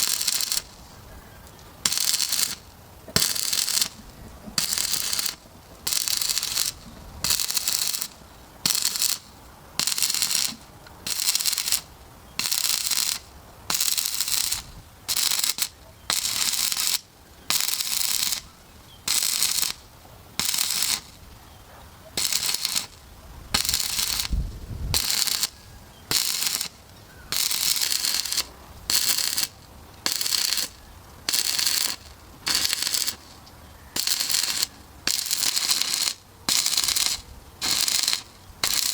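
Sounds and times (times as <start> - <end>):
welding arc crackling: 0.0 - 21.4, 22.1 - 38.9.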